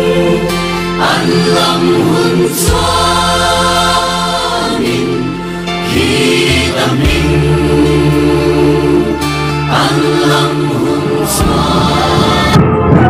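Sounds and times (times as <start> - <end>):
gospel choir singing: 0.0 - 12.8
held chords: 0.0 - 13.0.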